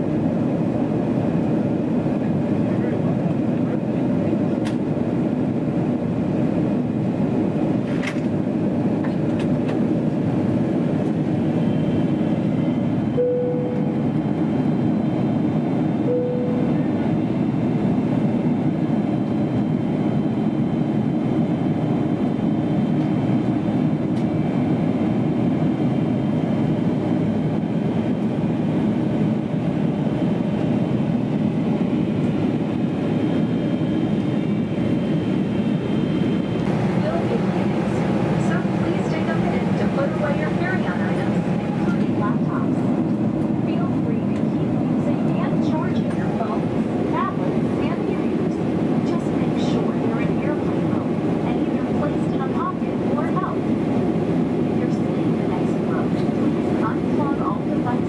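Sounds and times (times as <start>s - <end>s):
airplane cabin airflow and engine hum: 0.0s - 58.0s.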